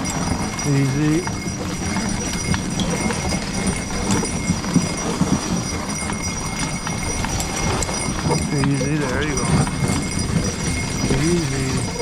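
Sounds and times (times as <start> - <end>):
pony hoofbeats on snow: 0.0 - 12.0.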